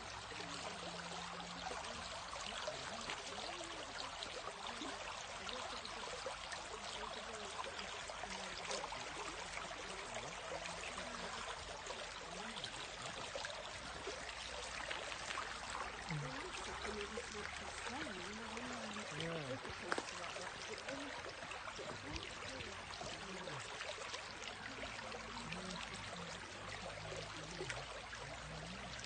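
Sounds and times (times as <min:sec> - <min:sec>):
stream running over gravel: 0:00.0 - 0:29.0.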